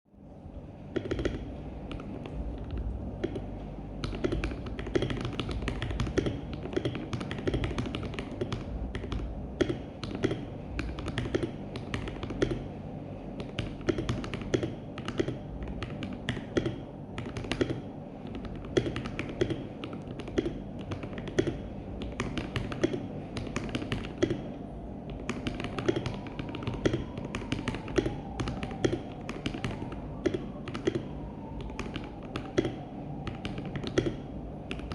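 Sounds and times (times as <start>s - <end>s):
mechanical keyboard typing: 0.9s - 12.7s, 13.4s - 34.9s.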